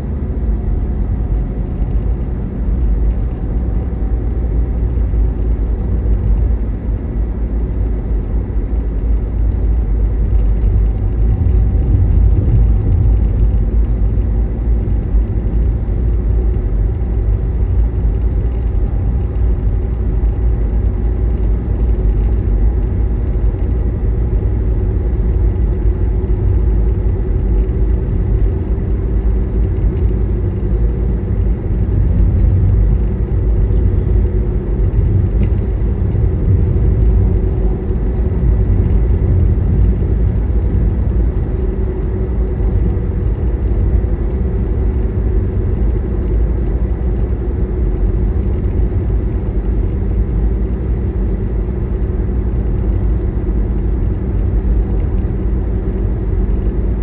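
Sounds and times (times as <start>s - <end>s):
car driving from inside cabin: 0.0s - 57.0s.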